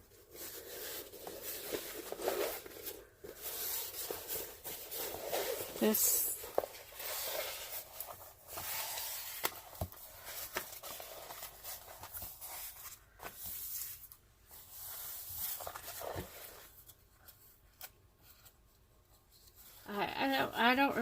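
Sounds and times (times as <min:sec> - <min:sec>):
packaging rustling and crinkling: 0:00.0 - 0:17.3.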